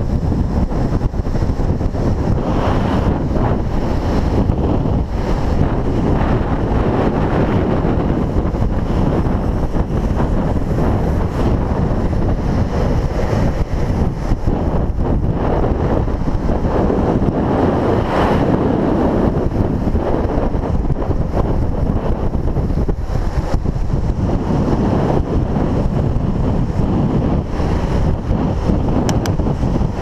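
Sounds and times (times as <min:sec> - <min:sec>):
heavy wind rush on microphone: 0:00.0 - 0:30.0
longboard wheels rolling on asphalt: 0:00.0 - 0:30.0.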